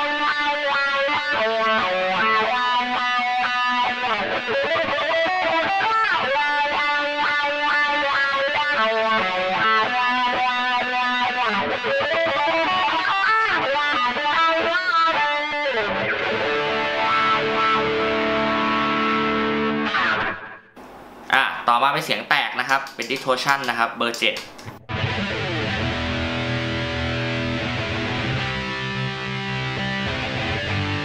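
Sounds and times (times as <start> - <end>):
electric guitar solo with wah: 0.0 - 20.7, 24.9 - 31.0.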